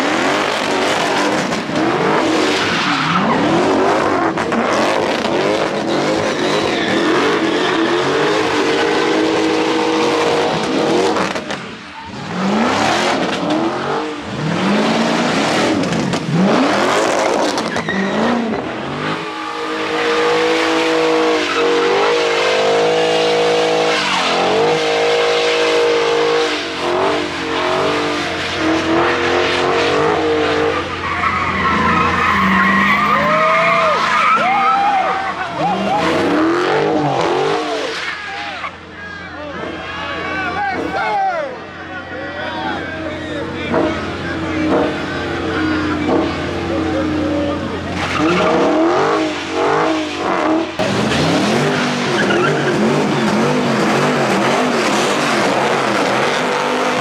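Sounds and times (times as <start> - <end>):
car engine revving hard: 0.0 - 38.9, 42.6 - 57.0
tires squealing and skidding: 0.0 - 57.0.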